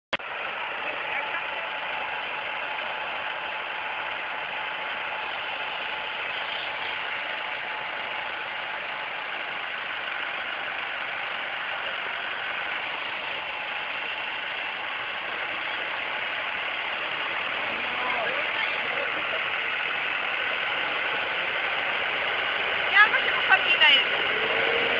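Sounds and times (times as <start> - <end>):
tractor diesel engine running: 0.1 - 24.9.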